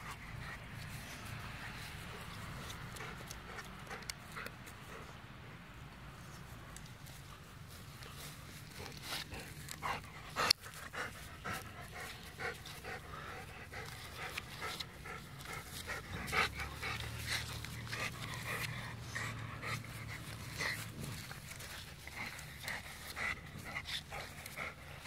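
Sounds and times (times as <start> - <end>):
dog panting: 0.0 - 5.4, 7.0 - 25.0.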